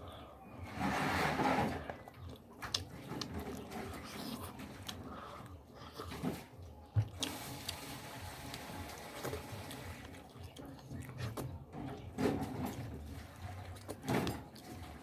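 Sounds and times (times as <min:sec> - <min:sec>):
person chewing food: 0:01.9 - 0:15.0.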